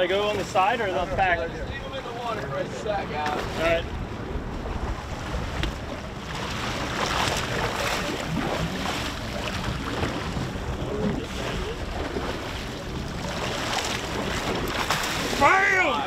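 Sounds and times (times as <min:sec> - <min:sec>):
water splashing against boat: 0:00.0 - 0:16.0
wind buffeting microphone: 0:00.0 - 0:16.0.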